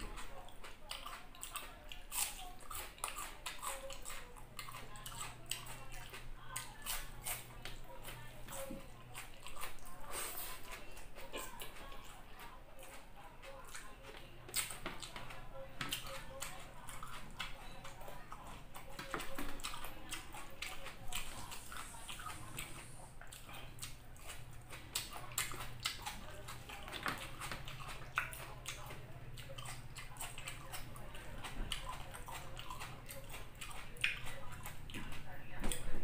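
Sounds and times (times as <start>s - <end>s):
person chewing and biting food: 0.0s - 35.9s.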